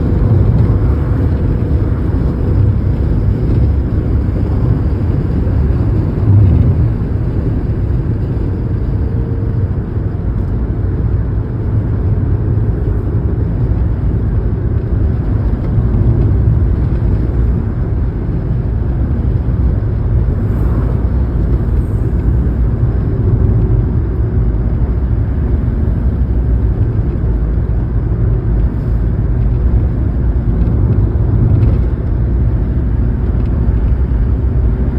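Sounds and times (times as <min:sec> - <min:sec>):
car driving on highway: 0:00.0 - 0:34.9.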